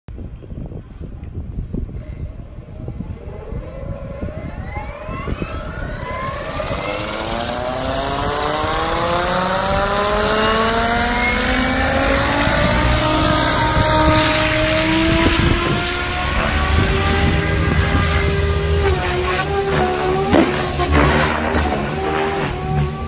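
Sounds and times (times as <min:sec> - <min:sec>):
helicopter rotors rushing: 0:02.5 - 0:23.0
electric motor whine rising: 0:03.1 - 0:23.0.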